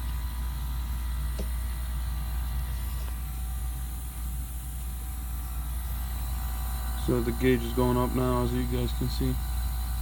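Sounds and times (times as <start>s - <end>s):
air compressor humming: 0.0s - 10.0s.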